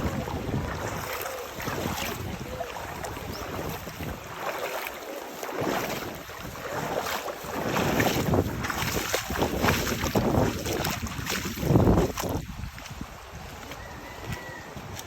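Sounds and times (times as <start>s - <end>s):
wind buffeting microphone: 0.0s - 4.6s, 5.6s - 15.0s
river rushing and splashing: 0.0s - 15.0s.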